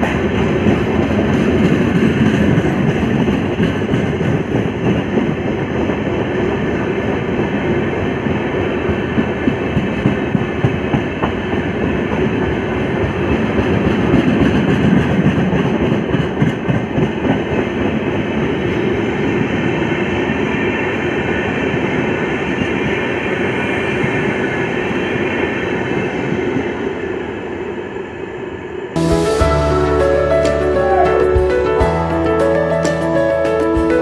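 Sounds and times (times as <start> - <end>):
train wheels rumbling on rails: 0.0 - 30.6.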